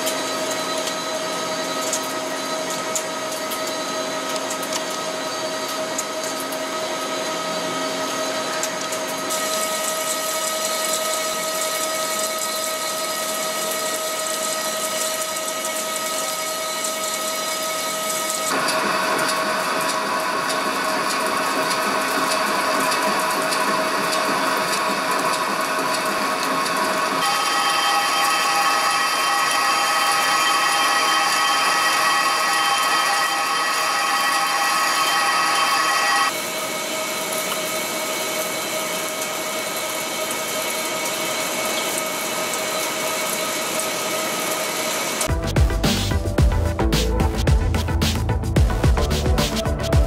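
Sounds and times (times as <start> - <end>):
machine whine: 0.0 - 50.0.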